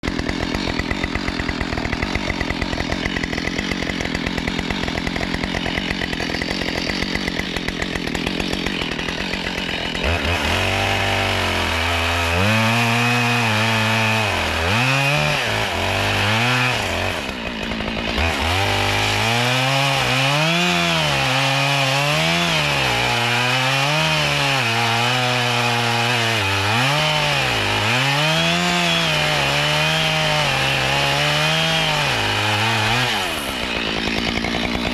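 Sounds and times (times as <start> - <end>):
chainsaw idling: 0.0 - 34.9
chainsaw revving and cutting wood: 0.0 - 34.9.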